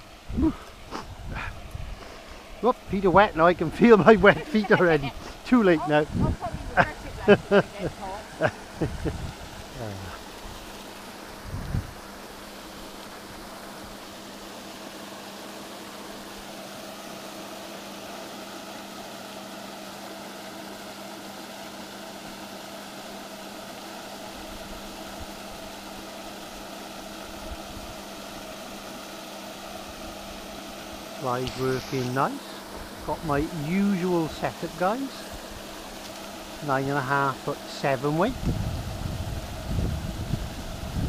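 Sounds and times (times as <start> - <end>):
motor humming steadily: 0.0 - 41.0.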